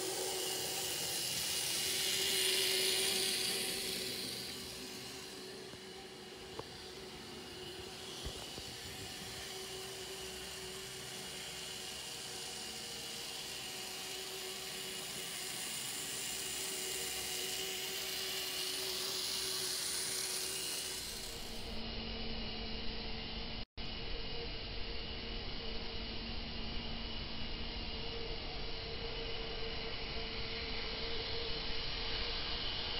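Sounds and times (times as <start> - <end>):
model train motor whine: 0.0 - 32.9.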